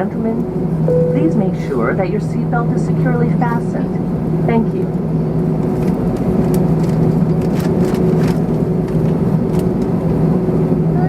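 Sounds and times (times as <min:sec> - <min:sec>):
aircraft engines humming: 0:00.0 - 0:11.0.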